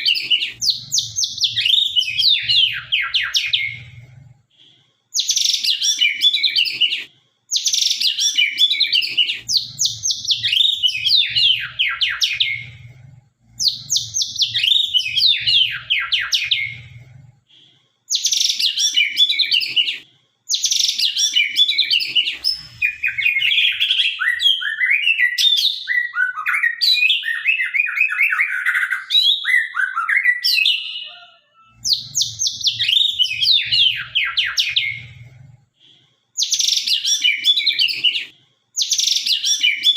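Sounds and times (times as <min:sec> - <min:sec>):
bird singing varied phrases: 0:00.0 - 0:04.0, 0:05.2 - 0:12.9, 0:13.6 - 0:17.0, 0:18.1 - 0:35.2, 0:36.4 - 0:39.9.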